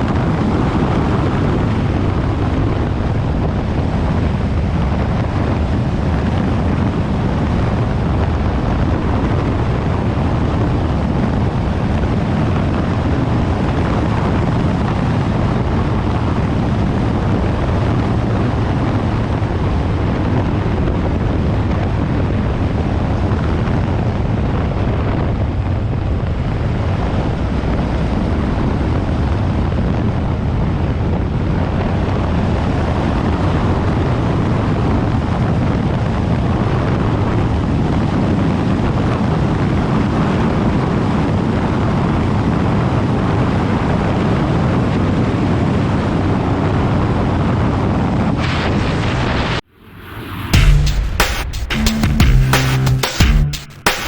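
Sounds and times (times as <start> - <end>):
wind noise on microphone: 0.0 - 51.2.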